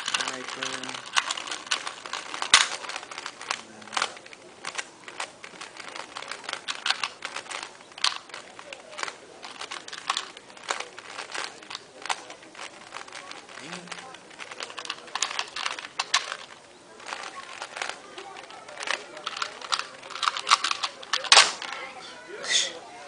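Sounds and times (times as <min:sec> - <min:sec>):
puzzle cube plastic clicks: 0:00.0 - 0:21.9.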